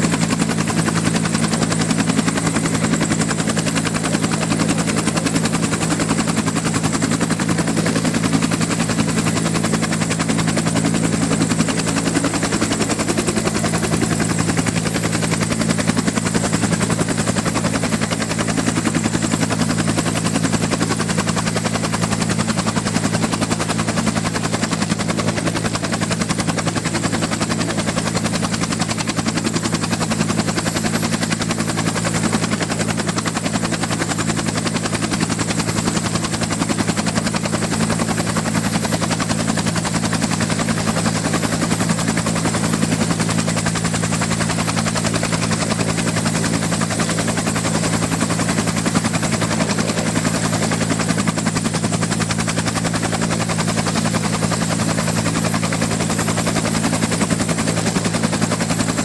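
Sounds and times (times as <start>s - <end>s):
buzzing drone with flutter: 0.0s - 59.0s.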